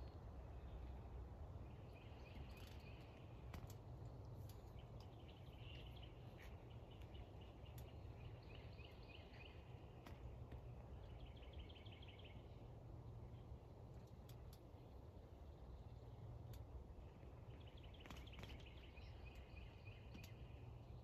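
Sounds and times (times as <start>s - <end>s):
low background rumble: 0.0s - 21.0s
small birds chirping: 0.0s - 21.0s.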